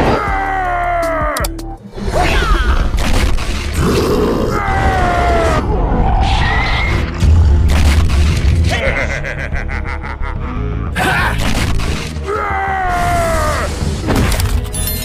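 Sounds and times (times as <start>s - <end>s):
cartoon background music: 0.0s - 15.0s.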